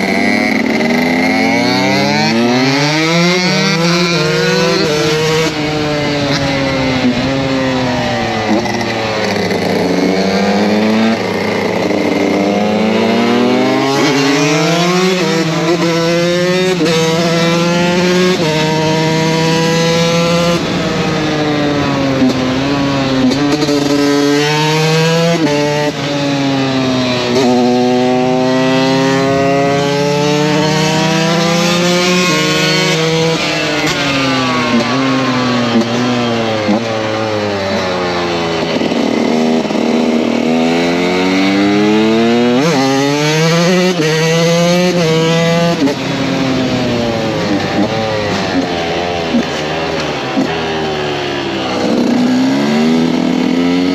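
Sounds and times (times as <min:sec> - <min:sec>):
motocross engine revving: 0:00.0 - 0:53.9.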